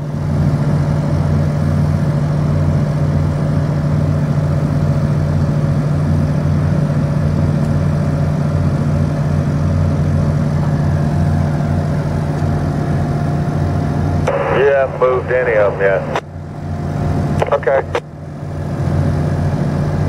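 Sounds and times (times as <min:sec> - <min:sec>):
heavy crane engines droning: 0:00.0 - 0:20.0.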